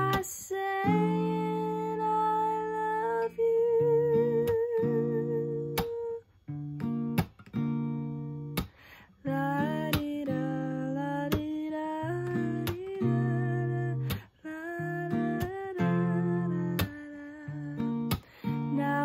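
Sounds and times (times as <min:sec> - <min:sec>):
young woman singing: 0:00.0 - 0:06.3, 0:09.2 - 0:19.0
acoustic guitar strumming: 0:00.0 - 0:19.0.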